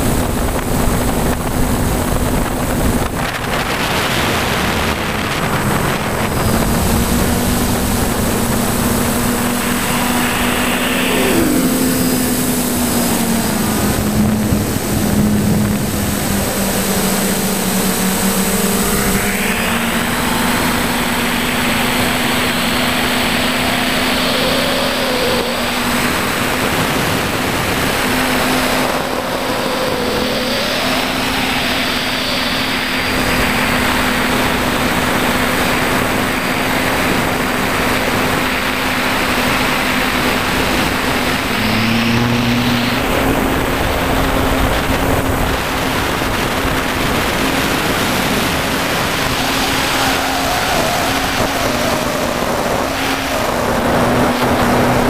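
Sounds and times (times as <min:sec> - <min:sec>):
drone motors humming: 0:00.0 - 0:55.0
propeller rushing hiss: 0:00.6 - 0:55.0.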